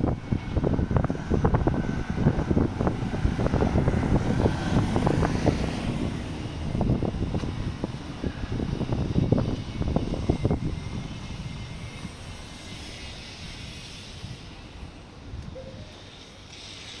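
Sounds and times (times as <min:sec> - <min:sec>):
strong wind buffeting microphone: 0:00.0 - 0:15.9.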